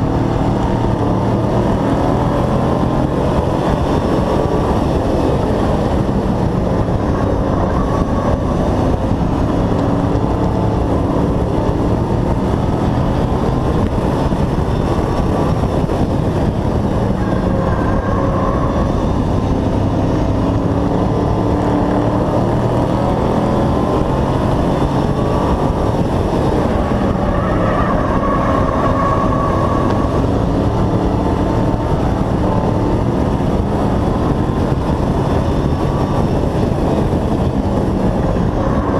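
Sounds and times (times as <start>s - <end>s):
constant rushing noise: 0.0s - 38.9s
race truck engine running hard: 0.0s - 38.9s.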